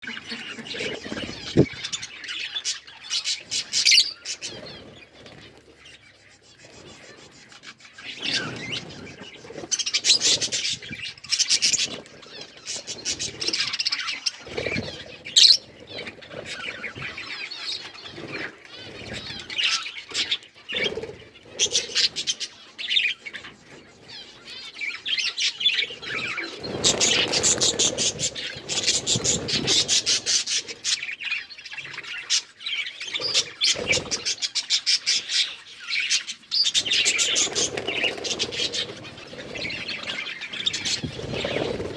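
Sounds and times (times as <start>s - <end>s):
budgerigars chirping and warbling: 0.0s - 41.9s.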